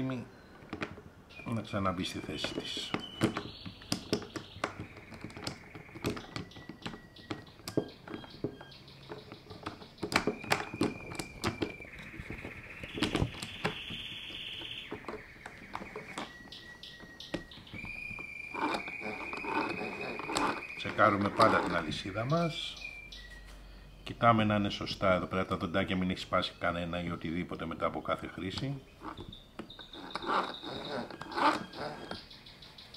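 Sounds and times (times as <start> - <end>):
songbird trilling: 1.3 - 24.0, 24.7 - 32.9.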